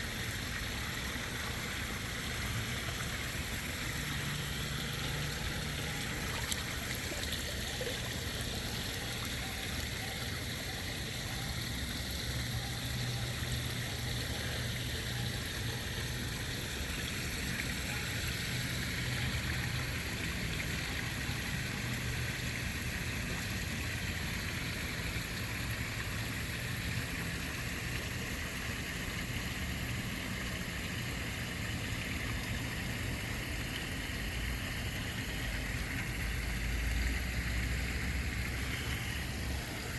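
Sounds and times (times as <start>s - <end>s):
water trickling in pond: 0.0s - 39.9s.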